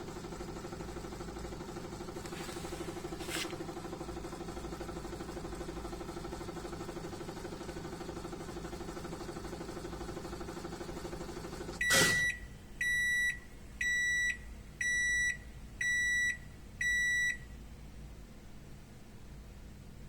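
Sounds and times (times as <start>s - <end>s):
washing machine spin cycle hum: 0.0s - 20.0s.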